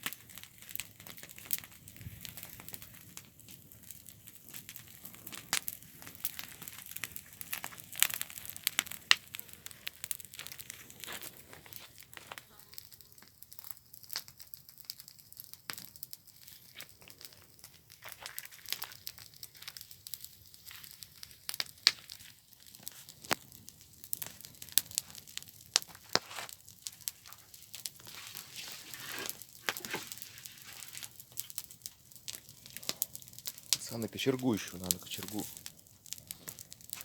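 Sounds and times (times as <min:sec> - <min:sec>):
fire hissing: 0:00.0 - 0:14.3, 0:14.9 - 0:37.0
campfire crackling and popping: 0:00.0 - 0:37.0.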